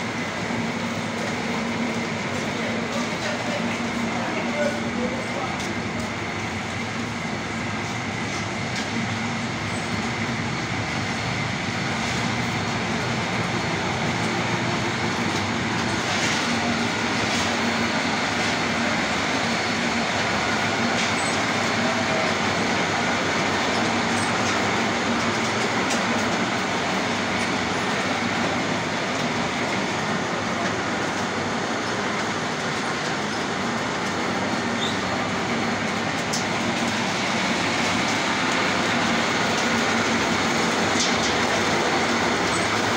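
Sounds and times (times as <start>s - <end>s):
oil expeller machines running: 0.0s - 42.9s.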